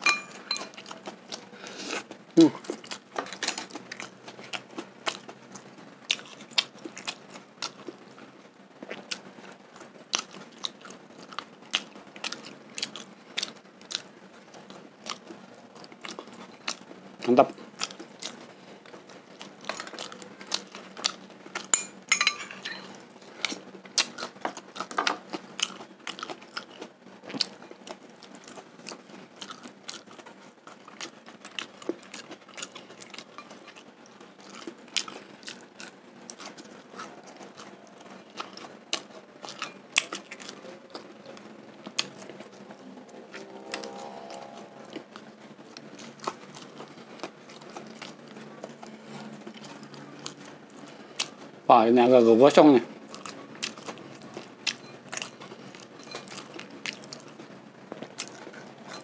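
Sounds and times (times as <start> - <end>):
person chewing food: 0.0 - 51.6, 53.0 - 59.0.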